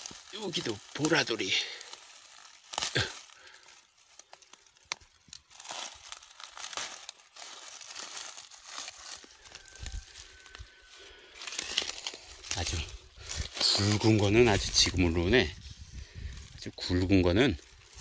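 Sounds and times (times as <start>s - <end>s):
dry leaves rustling and crackling: 0.0s - 18.0s.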